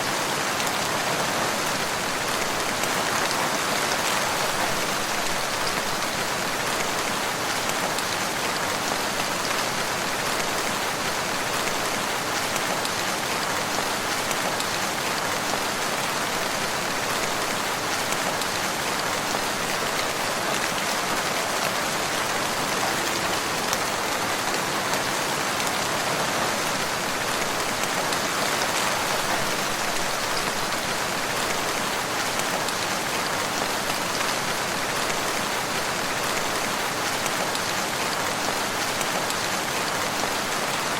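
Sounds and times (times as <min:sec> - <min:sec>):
steady rain patter: 0:00.0 - 0:40.9.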